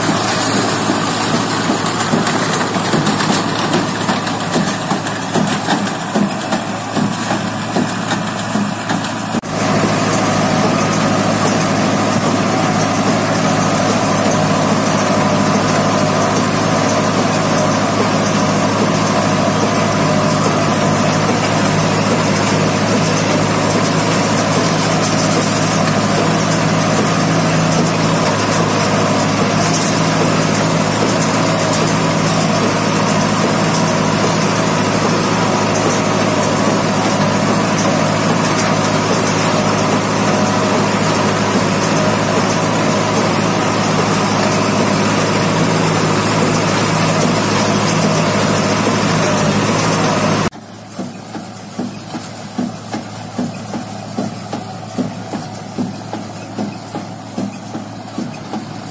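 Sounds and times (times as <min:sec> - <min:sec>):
baler working: 0:00.0 - 0:58.9
tractor diesel engine running: 0:00.0 - 0:58.9.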